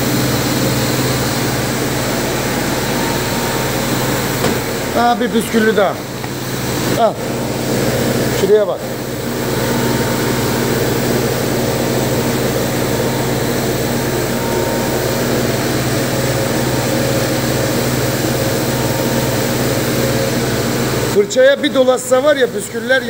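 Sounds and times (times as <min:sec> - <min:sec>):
carpet washing machine humming: 0:00.0 - 0:23.0.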